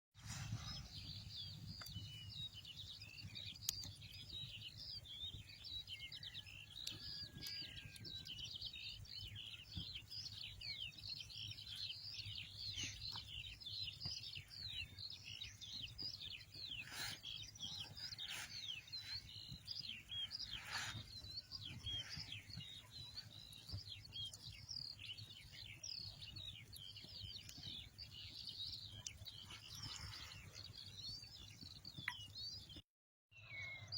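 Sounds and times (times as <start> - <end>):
small birds chirping: 0.2 - 32.8, 33.4 - 33.9.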